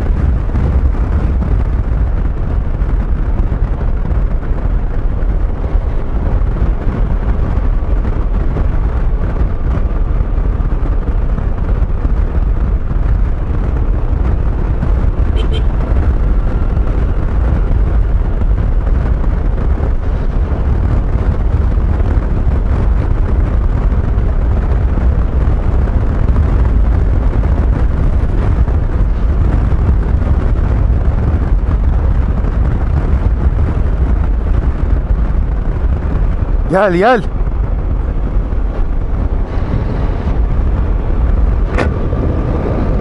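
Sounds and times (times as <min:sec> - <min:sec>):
road noise: 0:00.0 - 0:43.0
wind rumble on microphone: 0:00.0 - 0:43.0.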